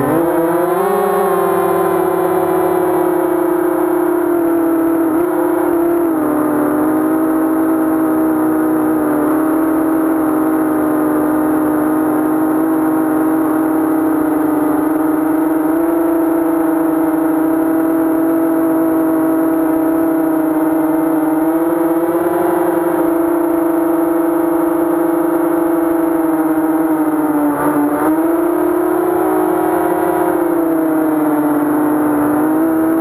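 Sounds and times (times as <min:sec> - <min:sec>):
drone motors buzzing whine: 0:00.0 - 0:33.0.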